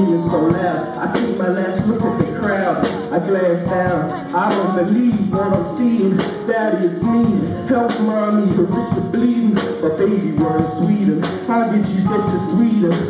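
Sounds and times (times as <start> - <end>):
drum kit fast beat: 0.0 - 13.0
man singing into microphone: 0.0 - 13.0.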